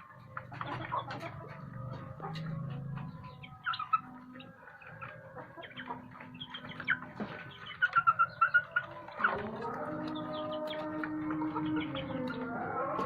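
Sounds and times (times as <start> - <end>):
chickens clucking and calling: 0.0 - 13.0.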